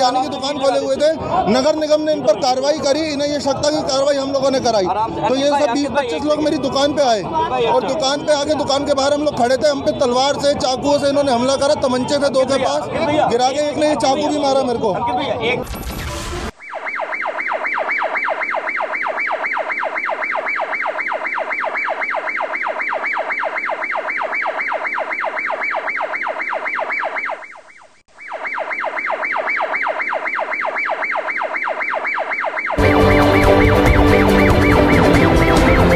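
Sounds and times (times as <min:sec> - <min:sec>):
police siren yelping: 0:00.0 - 0:14.9, 0:16.5 - 0:35.9.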